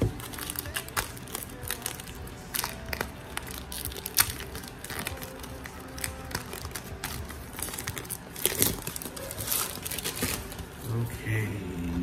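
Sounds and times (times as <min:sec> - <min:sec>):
plastic shrink-wrap crinkling: 0:00.0 - 0:11.1.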